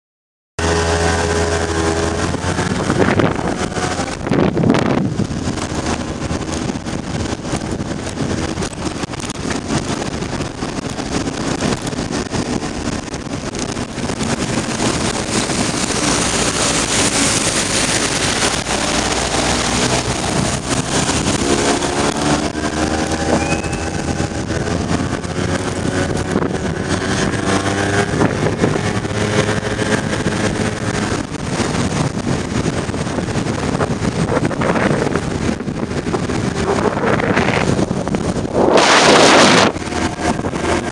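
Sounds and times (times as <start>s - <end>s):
scooter engine running: 0.6s - 40.9s
wind and road noise: 0.6s - 40.9s.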